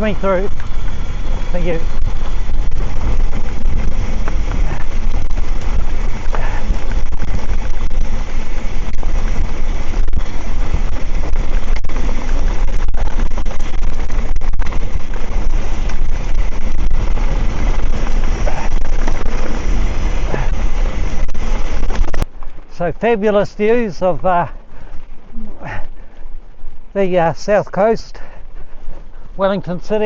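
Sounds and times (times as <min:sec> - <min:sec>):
bike tyre and frame rattle: 0:00.0 - 0:30.0
wind buffeting microphone: 0:00.0 - 0:30.0.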